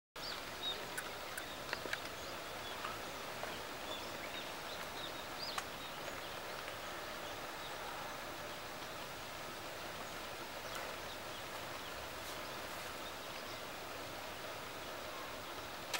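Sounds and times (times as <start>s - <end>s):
birds chirping: 0.2s - 15.9s
steady outdoor hiss: 0.2s - 15.9s.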